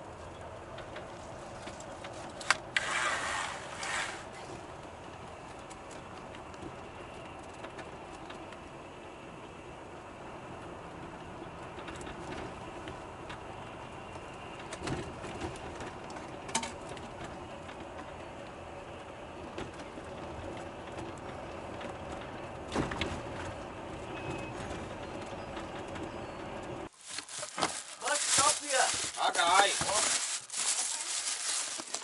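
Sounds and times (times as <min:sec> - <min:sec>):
road and engine noise in bus: 0:00.0 - 0:32.0.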